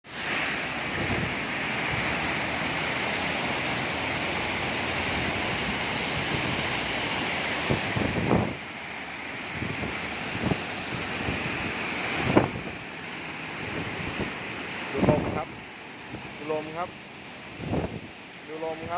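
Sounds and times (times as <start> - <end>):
waterfall roaring: 0.1 - 18.9.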